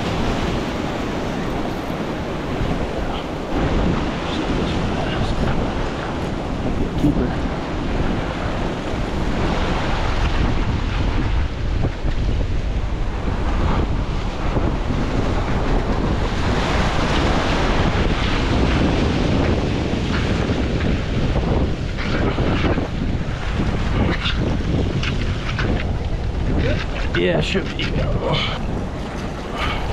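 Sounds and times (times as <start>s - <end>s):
surf breaking on rocks: 0.0s - 29.9s
wind buffeting microphone: 0.0s - 29.9s.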